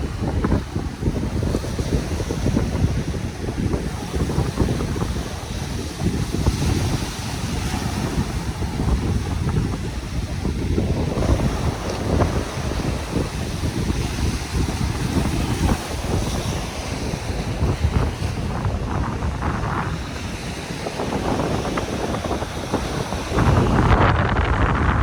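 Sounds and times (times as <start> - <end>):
surf washing on beach: 0.0 - 25.0
wind buffeting microphone: 0.0 - 25.0.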